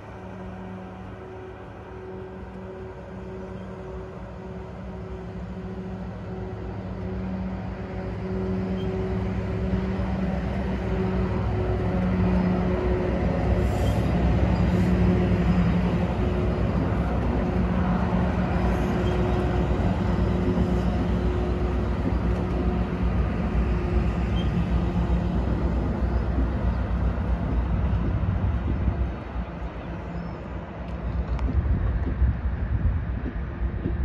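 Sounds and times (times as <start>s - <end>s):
train engine hum: 0.0s - 34.0s.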